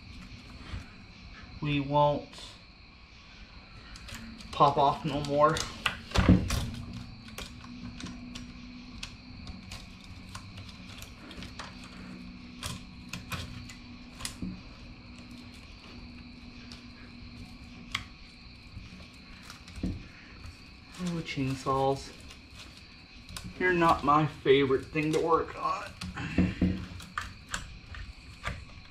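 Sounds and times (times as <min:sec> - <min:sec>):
steady background hum: 0:00.0 - 0:28.9.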